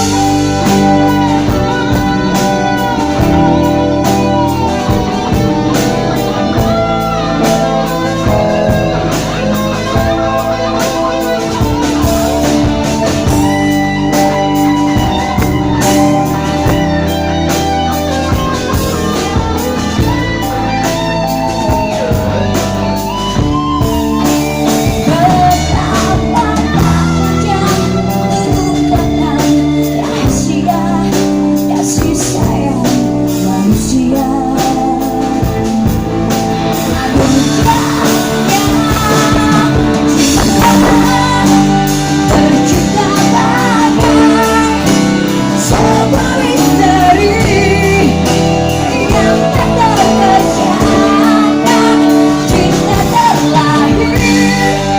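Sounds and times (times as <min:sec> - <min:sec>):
guitar and band backing: 0:00.0 - 0:54.9
woman singing: 0:00.0 - 0:54.9.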